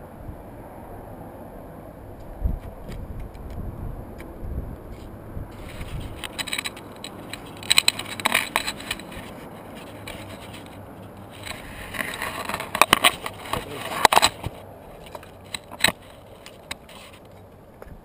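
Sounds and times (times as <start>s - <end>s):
scraping on rock and gravel: 2.6s - 17.6s.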